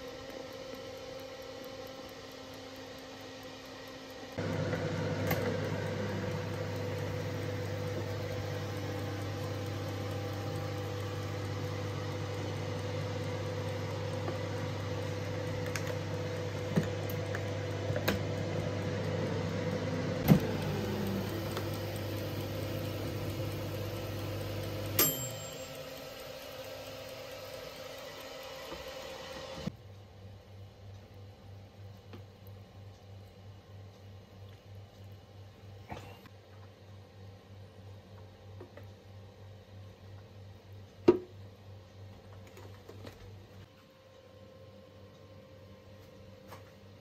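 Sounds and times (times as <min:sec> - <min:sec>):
air fryer fan humming: 0:00.0 - 0:47.0.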